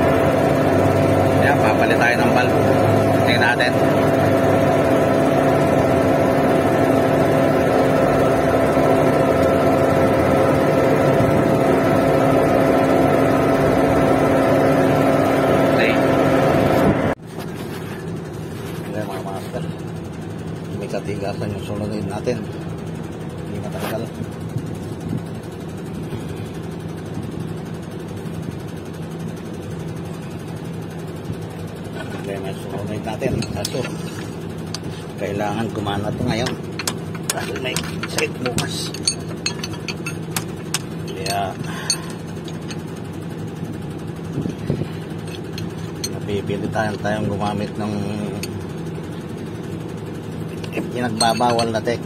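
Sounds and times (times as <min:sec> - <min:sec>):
concrete pump engine drone: 0:00.0 - 0:52.0.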